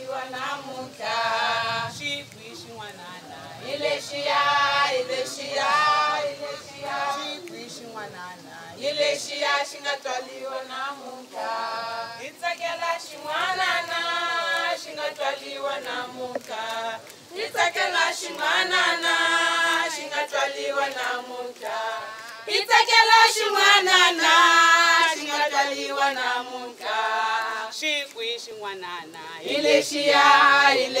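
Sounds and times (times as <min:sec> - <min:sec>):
women singing in unison: 0:00.0 - 0:31.0.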